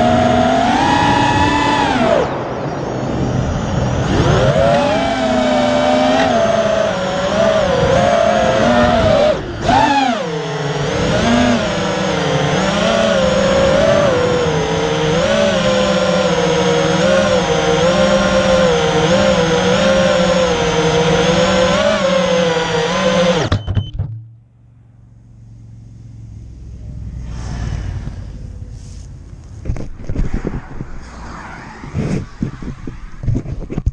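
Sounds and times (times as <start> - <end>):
quadcopter motors whining: 0.0 - 23.6, 25.4 - 33.9.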